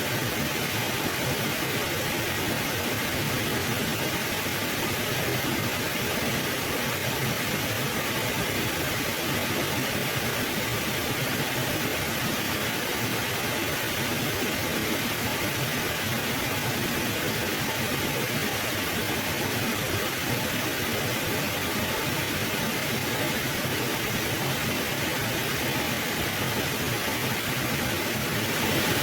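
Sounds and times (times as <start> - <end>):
river water flowing over stones: 0.1 - 29.0.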